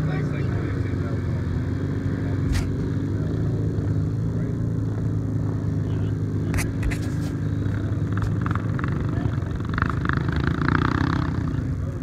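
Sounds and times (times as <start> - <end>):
atv engines droning: 0.0 - 12.0.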